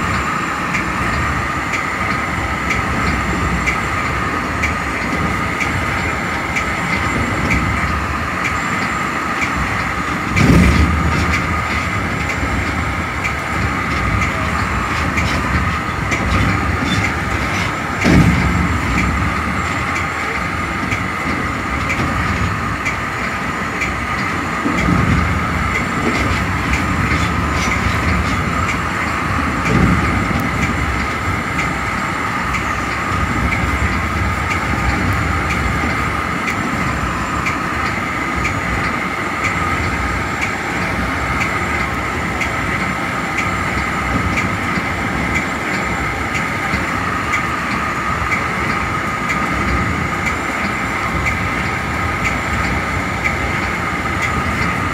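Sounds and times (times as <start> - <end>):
train rumble and hum: 0.0 - 54.9
wheels clicking: 0.0 - 54.9
wheels thumping over track joints: 0.0 - 54.9.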